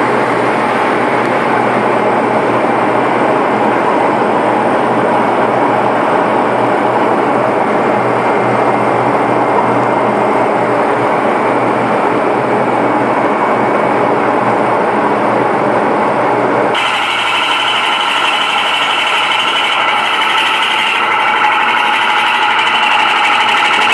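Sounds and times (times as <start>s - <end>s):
water-jetting pump running: 0.0s - 23.9s.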